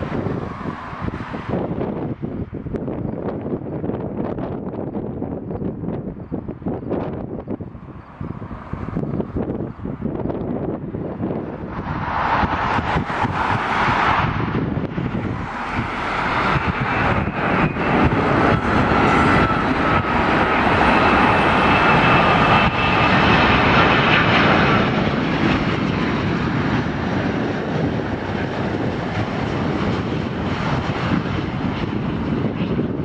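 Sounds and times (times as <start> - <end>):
airliner jet engines rumbling: 0.0 - 33.0.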